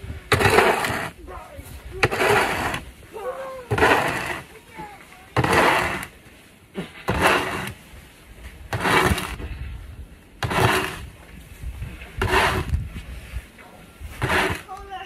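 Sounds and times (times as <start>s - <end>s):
snow shovel scraping pavement: 0.0s - 9.8s, 10.4s - 15.0s.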